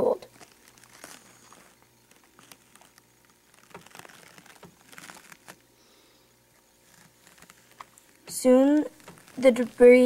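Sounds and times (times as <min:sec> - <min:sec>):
low steady hum: 0:00.0 - 0:10.0
light rustling: 0:00.2 - 0:05.6, 0:06.5 - 0:10.0.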